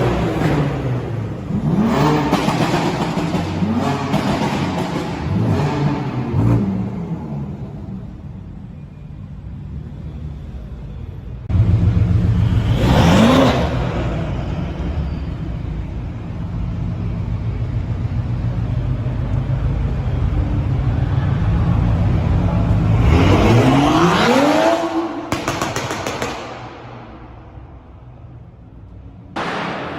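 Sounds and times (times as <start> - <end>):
car engines revving: 0.0 - 8.7, 11.4 - 29.9.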